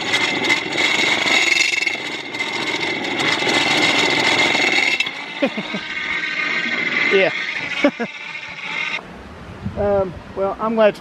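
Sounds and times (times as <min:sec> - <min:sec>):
alternator whining: 0:00.0 - 0:09.0.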